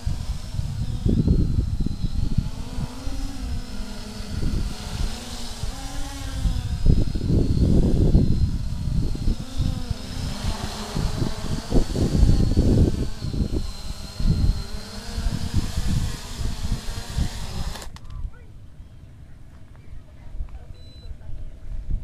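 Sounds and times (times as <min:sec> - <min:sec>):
quadcopter propellers buzzing: 0:00.0 - 0:18.4
wind rumbling on microphone: 0:00.0 - 0:22.0.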